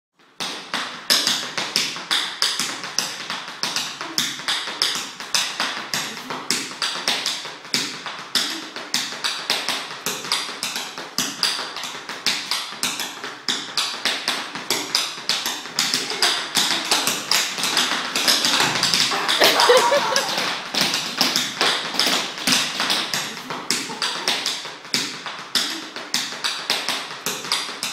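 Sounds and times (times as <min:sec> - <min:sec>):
tap shoes on wooden floor: 0:00.2 - 0:27.9.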